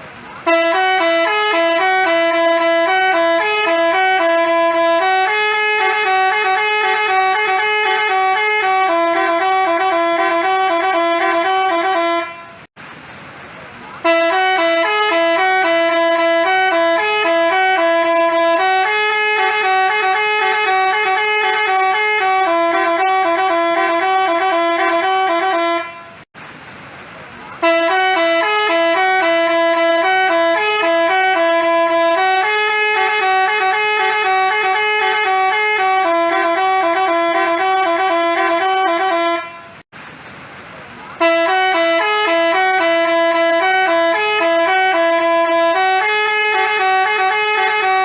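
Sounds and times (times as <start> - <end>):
bus horn playing a tune: 0.3 - 12.8, 14.0 - 26.3, 27.6 - 39.9, 41.2 - 48.0.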